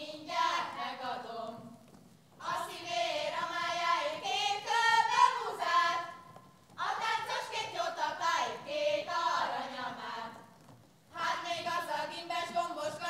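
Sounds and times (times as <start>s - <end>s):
girls singing folk song: 0.0s - 13.0s.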